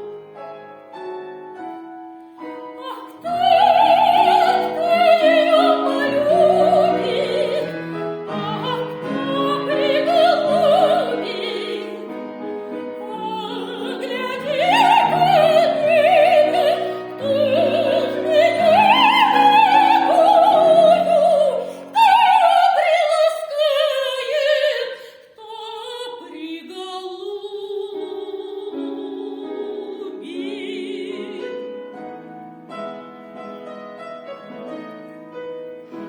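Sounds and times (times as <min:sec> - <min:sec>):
piano accompaniment: 0:00.0 - 0:24.7, 0:26.2 - 0:36.0
operatic soprano singing: 0:02.7 - 0:31.9.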